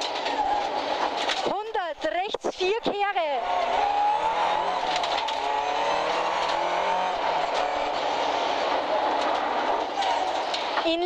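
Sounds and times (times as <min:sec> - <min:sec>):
rally car engine under load: 0:00.0 - 0:01.6, 0:02.2 - 0:11.0.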